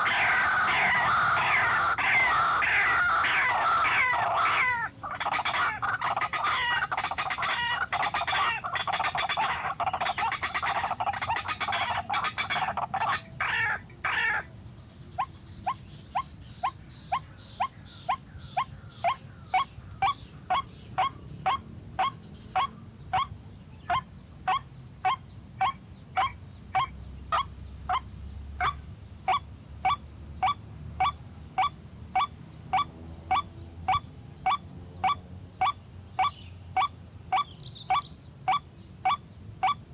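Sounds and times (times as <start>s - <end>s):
waterhen croaking calls: 0.0s - 39.9s.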